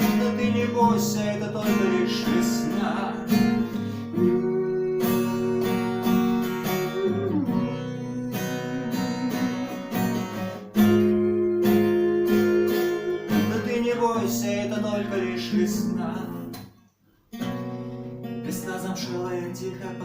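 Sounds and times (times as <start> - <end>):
acoustic guitar strumming chords: 0.0 - 16.6, 17.4 - 20.0.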